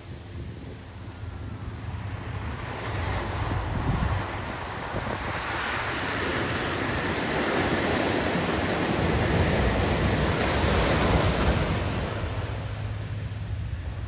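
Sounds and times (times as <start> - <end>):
waves washing over sand: 0.0 - 14.0.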